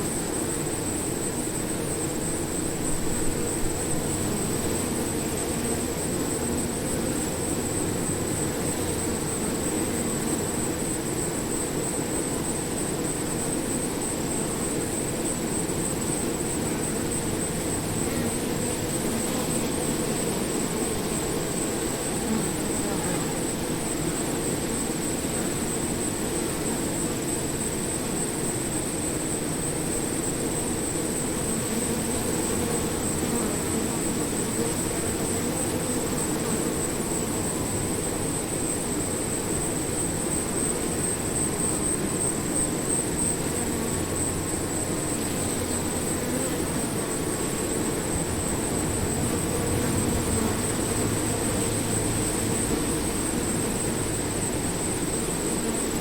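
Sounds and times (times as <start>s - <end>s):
bees buzzing: 0.2s - 27.8s, 30.3s - 56.0s.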